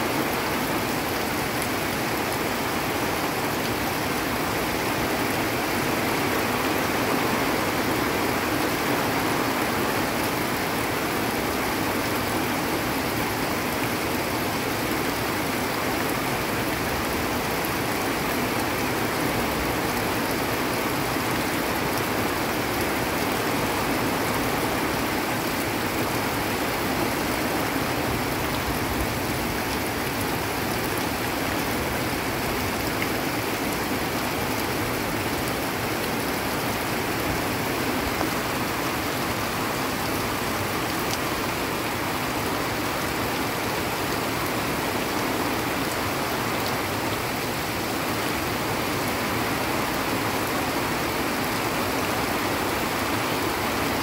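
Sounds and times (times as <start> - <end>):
heavy rain on vegetation: 0.0 - 54.0
runoff water rushing: 0.0 - 54.0.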